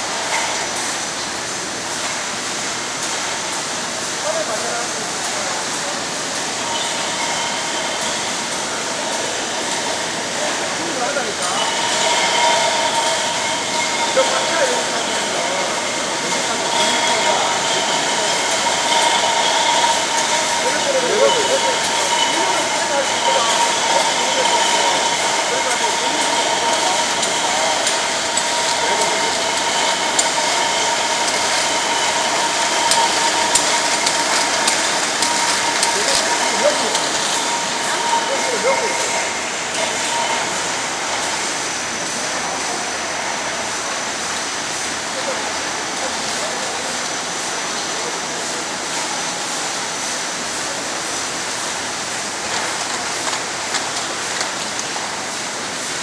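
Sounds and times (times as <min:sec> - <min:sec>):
factory machinery din: 0:00.0 - 0:56.0
steady high hum: 0:05.9 - 0:55.4.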